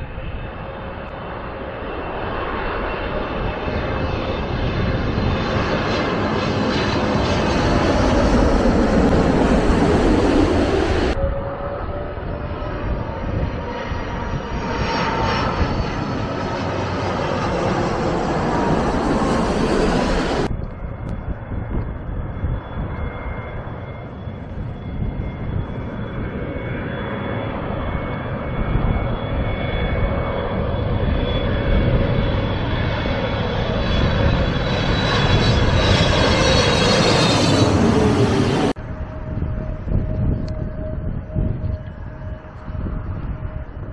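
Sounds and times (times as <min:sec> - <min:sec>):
jet airliner engines passing overhead: 0:00.0 - 0:43.9.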